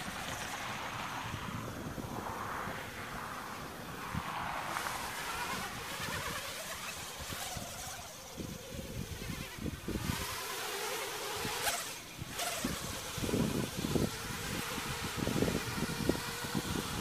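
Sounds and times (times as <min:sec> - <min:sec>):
drone propellers buzzing: 0:00.0 - 0:17.0
wind buffeting microphone: 0:00.0 - 0:17.0.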